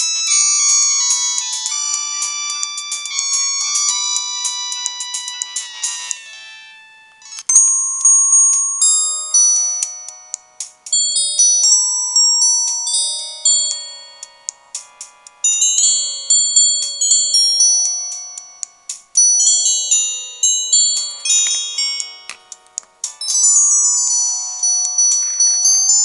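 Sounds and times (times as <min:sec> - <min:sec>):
mobile phone ringtone melody: 0:00.0 - 0:26.0.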